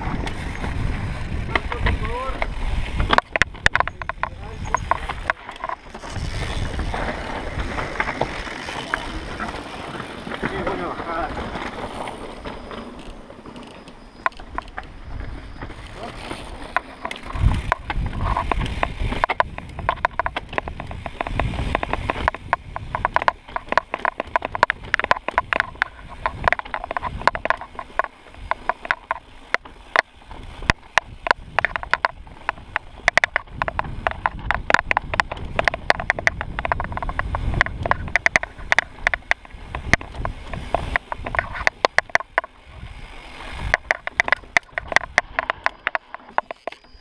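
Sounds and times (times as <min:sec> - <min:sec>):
mountain bike rattling: 0:00.0 - 0:47.0.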